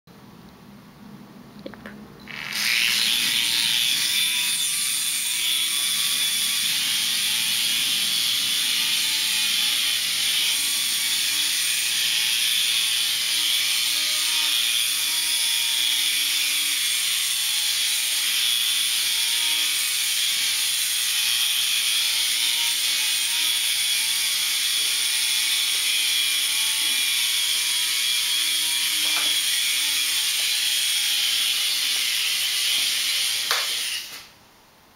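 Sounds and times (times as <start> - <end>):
toy helicopter rotors whirring: 2.3 - 34.2.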